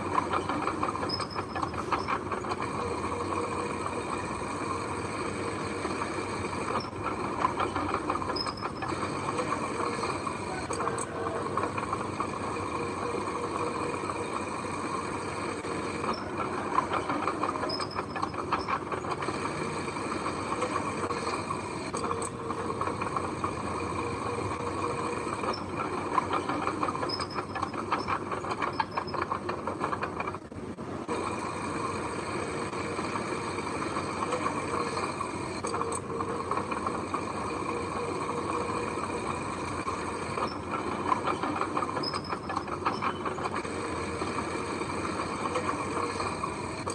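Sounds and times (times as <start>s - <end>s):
bulldozer engine drone: 0.0s - 46.9s
metallic clatter of steel tracks: 0.0s - 46.9s.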